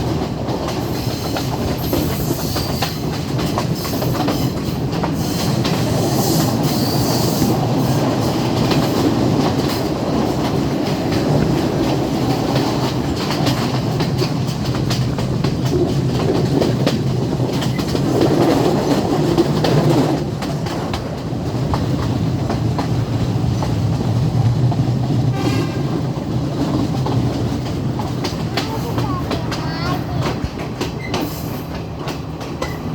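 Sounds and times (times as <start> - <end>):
train rumble: 0.0 - 32.9
wheels clacking over rail joints: 0.0 - 32.9.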